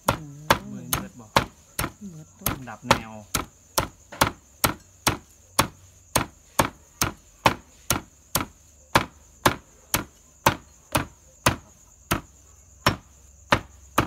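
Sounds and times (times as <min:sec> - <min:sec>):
cleaver chopping on wooden board: 0:00.0 - 0:14.0.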